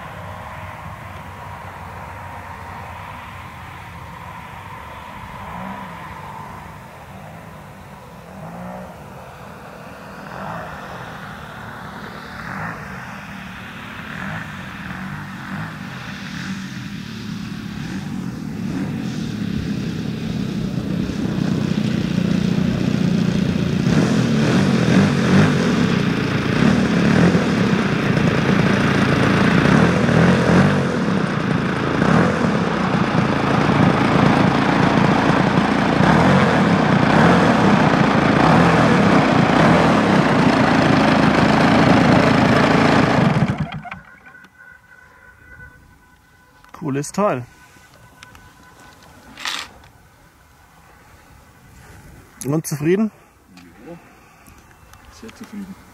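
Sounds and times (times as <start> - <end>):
model plane engine: 0.0 - 46.8, 47.6 - 50.0.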